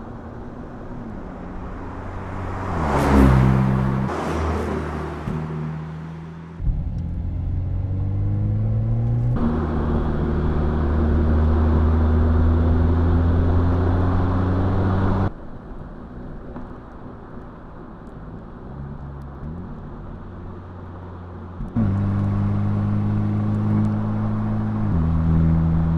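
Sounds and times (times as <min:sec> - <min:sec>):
car engine accelerating: 0:00.0 - 0:15.3, 0:18.0 - 0:25.9.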